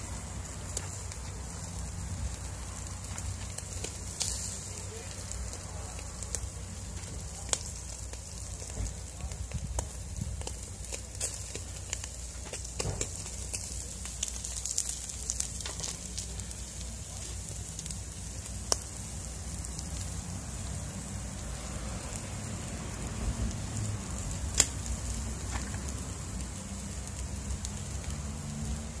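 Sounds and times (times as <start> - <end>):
coals crackling: 0.0 - 29.0
fish sizzling on grill: 0.0 - 29.0.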